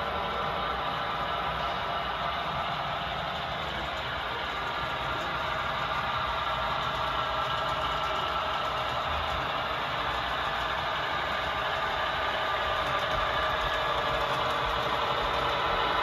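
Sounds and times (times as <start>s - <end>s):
diesel engine sound through small speaker: 0.0s - 16.0s.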